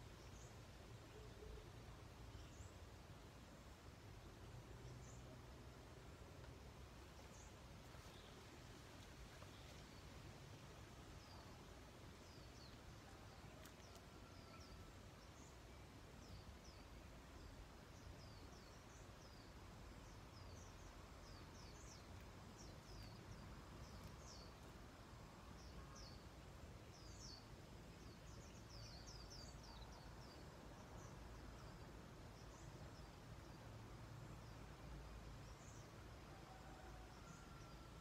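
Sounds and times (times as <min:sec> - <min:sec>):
low steady background noise: 0:00.0 - 0:38.0.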